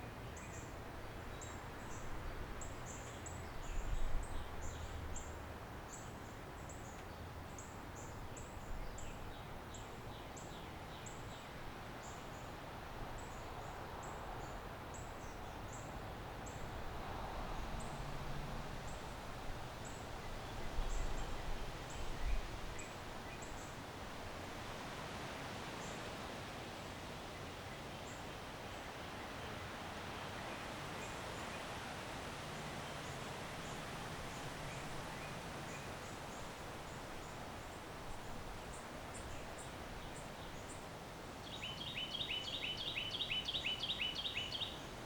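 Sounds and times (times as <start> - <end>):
wind in trees: 0.0 - 45.0.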